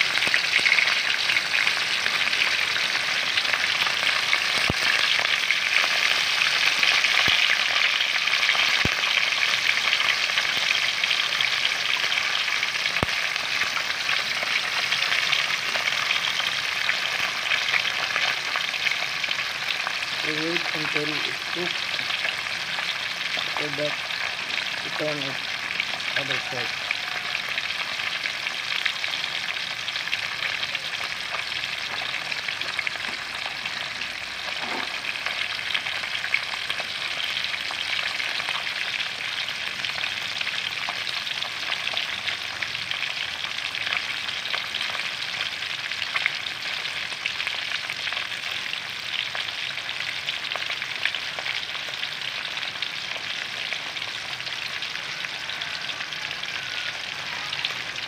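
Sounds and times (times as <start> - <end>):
fish deep-frying in oil: 0.0 - 58.0.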